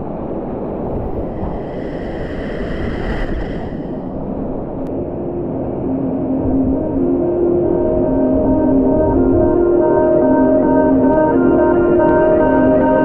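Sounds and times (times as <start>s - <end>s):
soft ambient music: 0.0s - 13.0s.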